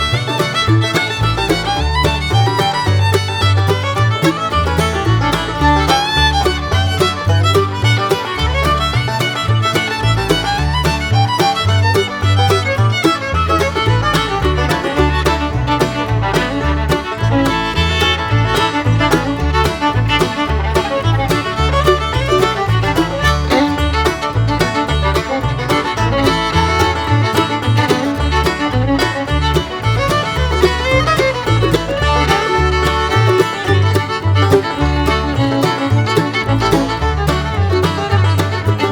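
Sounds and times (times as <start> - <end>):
bluegrass music with fiddle and banjo: 0.0 - 38.9.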